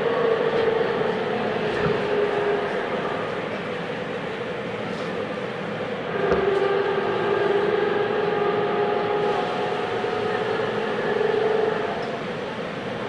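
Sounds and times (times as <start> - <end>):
inverter and motor whine: 0.0 - 13.0
train running noise: 0.0 - 13.0.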